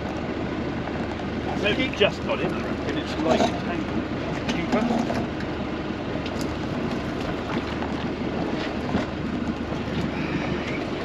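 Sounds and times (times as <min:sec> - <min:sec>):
sea noise: 0:00.0 - 0:11.0
wind: 0:00.0 - 0:11.0.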